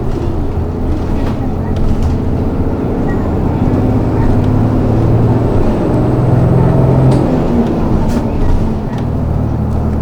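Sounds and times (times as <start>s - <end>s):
bus engine hum: 0.0s - 10.0s.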